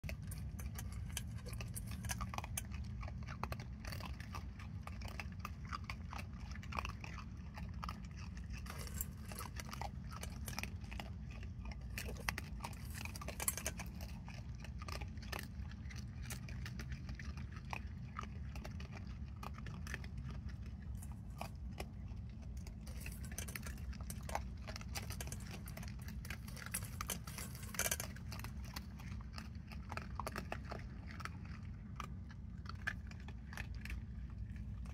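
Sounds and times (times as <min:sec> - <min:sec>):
animals crunching dry kibble: 0:00.0 - 0:34.9
steady low hum: 0:00.0 - 0:34.9.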